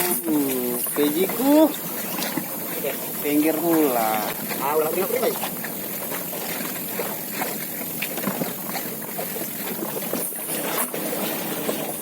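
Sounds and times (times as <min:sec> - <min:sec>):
small knocks and splashes: 0:00.0 - 0:12.0
water lapping around boat: 0:00.0 - 0:12.0.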